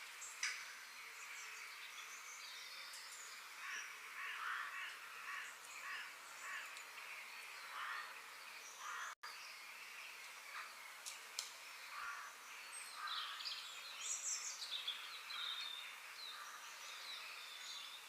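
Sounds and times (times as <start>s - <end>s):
harsh bird calls: 0.2s - 18.0s.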